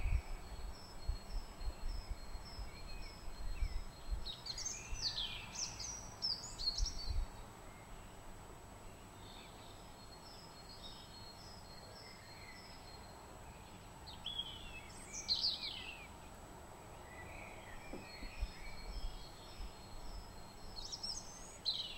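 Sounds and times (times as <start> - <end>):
songbirds chirping faintly: 0.0 - 21.9.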